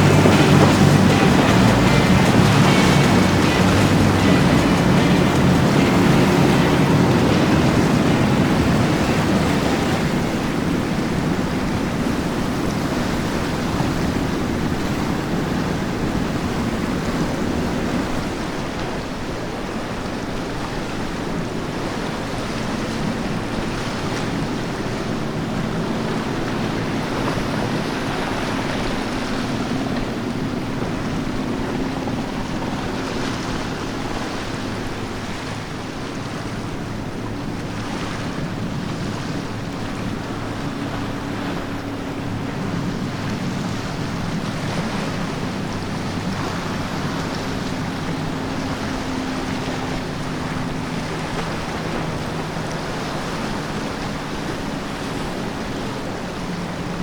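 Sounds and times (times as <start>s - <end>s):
boat engine humming: 0.0s - 57.0s
waves and surf: 0.0s - 57.0s
wind buffeting microphone: 0.0s - 57.0s.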